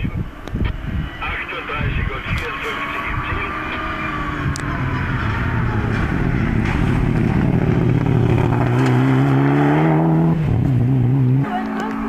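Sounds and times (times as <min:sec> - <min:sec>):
rally car engine approaching: 0:00.0 - 0:12.0.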